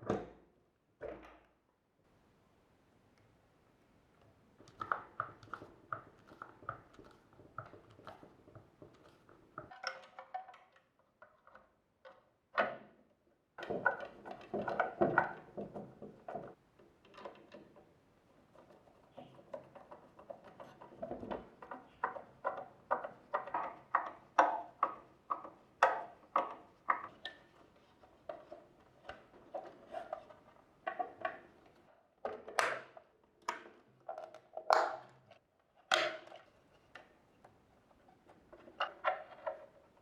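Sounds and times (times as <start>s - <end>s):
plastic parts clicking and knocking: 4.6s - 12.9s, 13.6s - 40.0s.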